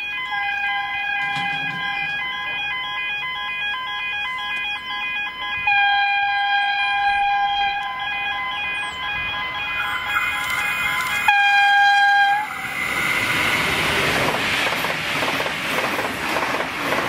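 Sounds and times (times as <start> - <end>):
level crossing warning bells: 0.0 - 15.0.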